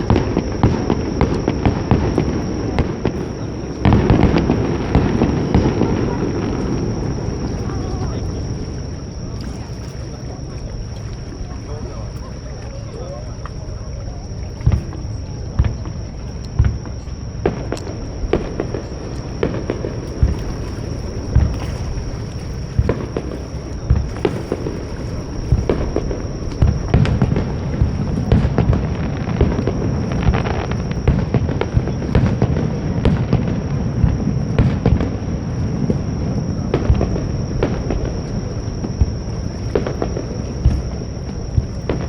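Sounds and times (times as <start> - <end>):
fireworks booms and cracks: 0.0 - 9.6, 14.6 - 42.0
continuous low rumble: 0.0 - 42.0.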